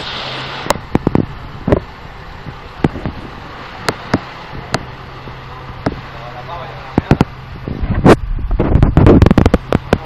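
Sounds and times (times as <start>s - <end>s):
diesel engine running low hum: 0.0s - 10.0s.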